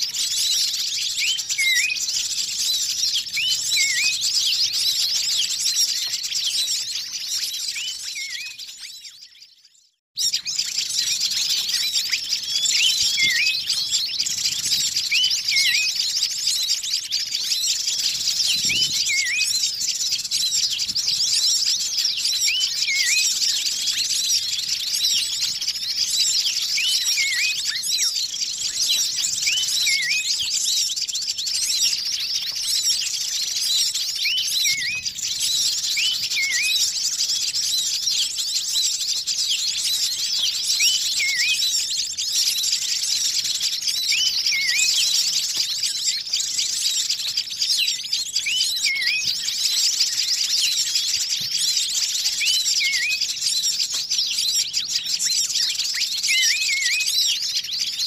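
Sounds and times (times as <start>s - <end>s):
flock of small birds chirping: 0.0s - 58.0s.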